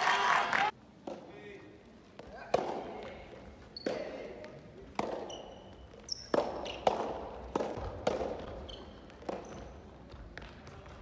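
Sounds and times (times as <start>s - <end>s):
tennis balls struck by rackets: 0.9s - 1.4s, 2.1s - 11.0s
shoes squeaking on court: 2.0s - 11.0s
balls bouncing on wooden floor: 2.1s - 11.0s.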